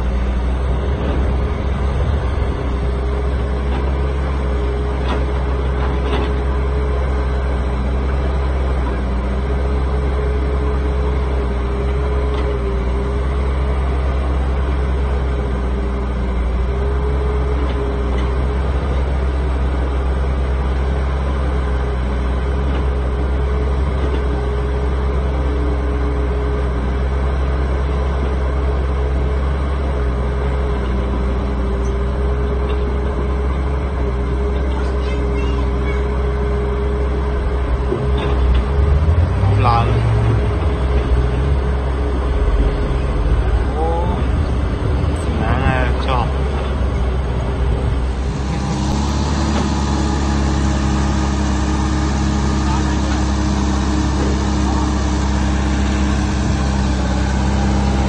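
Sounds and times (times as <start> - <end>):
heavy diesel engines droning: 0.0 - 58.0
wavering engine whine: 0.0 - 58.0.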